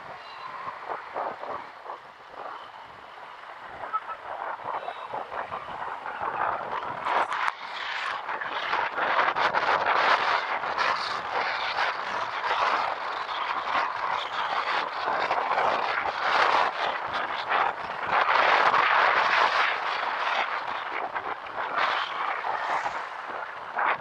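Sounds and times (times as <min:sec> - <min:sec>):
motorcycle road noise: 0:00.0 - 0:24.0
wind rush: 0:00.0 - 0:24.0.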